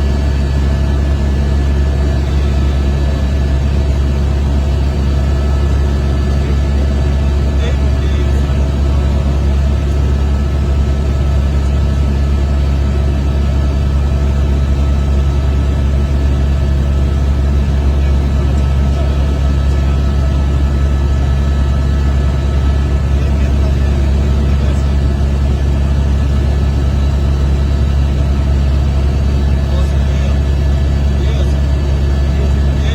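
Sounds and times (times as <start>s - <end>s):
helicopter engine and rotor drone: 0.0s - 32.9s.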